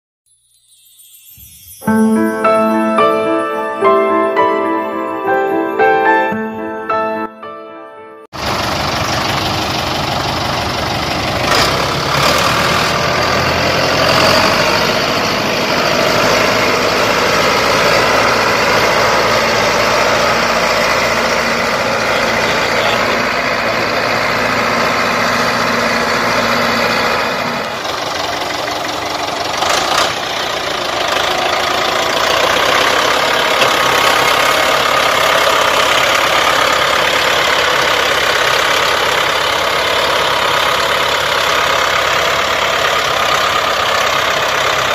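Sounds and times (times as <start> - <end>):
tractor diesel engine under load: 8.3 - 44.9.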